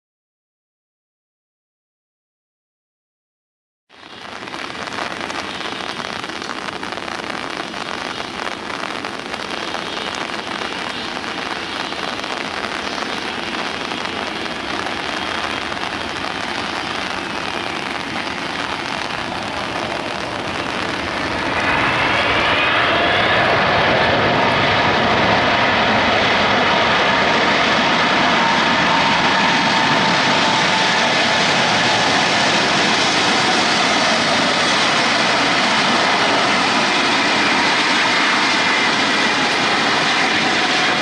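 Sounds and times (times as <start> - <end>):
heavy rain: 3.9 - 41.0
jet airliner engines whining: 4.0 - 41.0.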